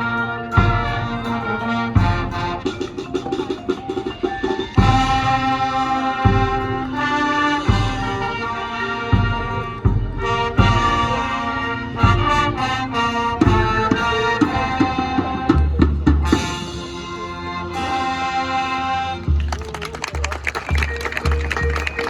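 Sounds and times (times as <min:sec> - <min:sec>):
brass sustained chords: 0:00.0 - 0:03.6, 0:04.2 - 0:19.8.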